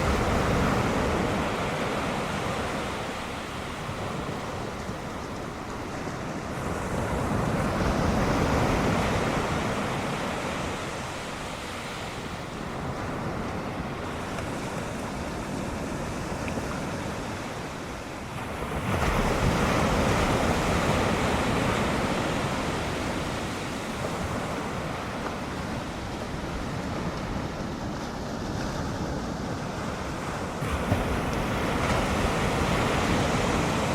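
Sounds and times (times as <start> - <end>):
ocean waves breaking: 0.0 - 33.9
wind noise: 0.0 - 33.9.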